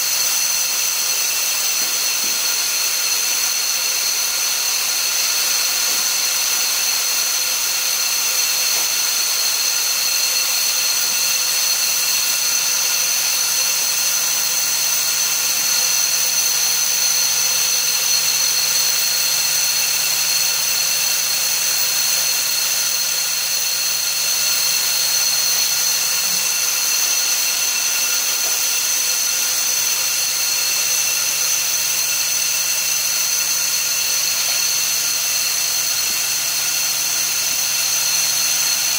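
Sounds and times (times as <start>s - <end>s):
high steady whining tones: 0.0s - 38.9s
machinery hiss: 0.0s - 38.9s.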